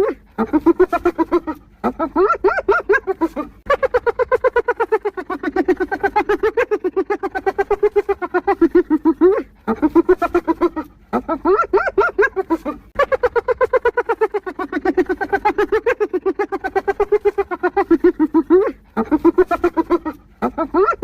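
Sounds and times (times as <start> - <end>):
hyena giggling whoops: 0.0 - 21.0.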